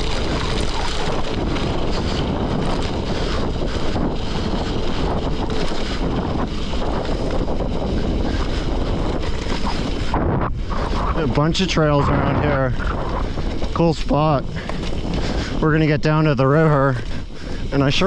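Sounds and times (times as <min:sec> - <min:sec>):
bicycle tyres rolling on gravel: 0:00.0 - 0:18.0
wind rushing over microphone: 0:00.0 - 0:18.0.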